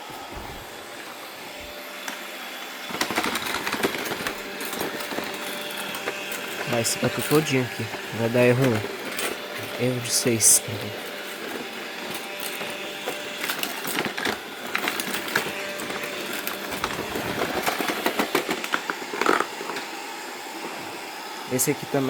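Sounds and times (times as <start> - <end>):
robot vacuum motor whir: 0.0 - 22.0.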